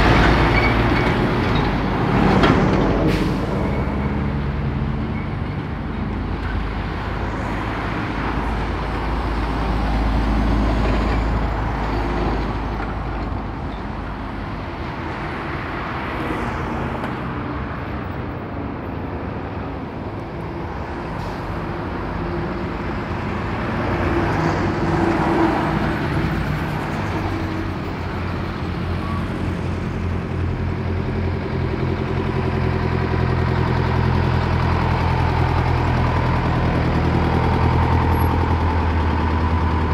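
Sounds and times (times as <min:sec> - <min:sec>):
diesel truck engine: 0:00.0 - 0:39.9
trucks and cars driving past: 0:00.0 - 0:39.9.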